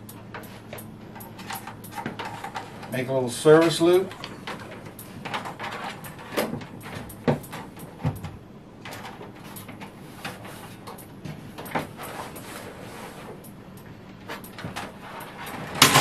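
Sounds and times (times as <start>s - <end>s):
cables rustling: 0.0s - 16.0s.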